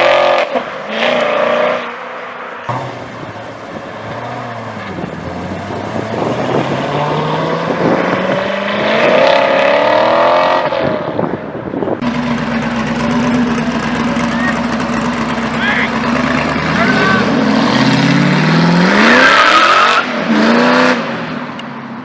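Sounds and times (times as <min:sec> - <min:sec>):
car engine accelerating hard: 0:02.7 - 0:11.0, 0:12.0 - 0:21.4.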